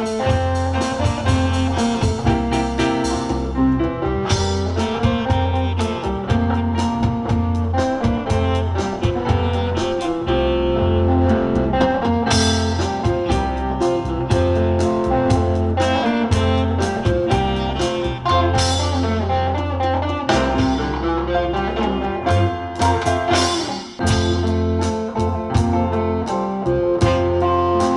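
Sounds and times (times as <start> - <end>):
electric guitar: 0.0 - 27.9
live band playing instrumental: 0.0 - 27.9.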